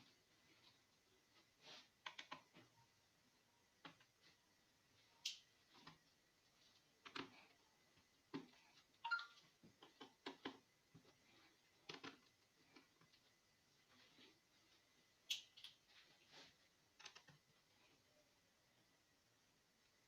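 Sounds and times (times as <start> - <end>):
faint clicks and light taps: 0.0 - 3.0, 3.7 - 18.0.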